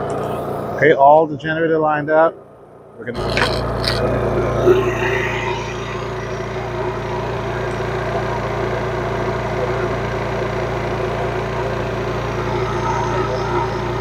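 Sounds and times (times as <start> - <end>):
generator engine humming: 0.0 - 14.0.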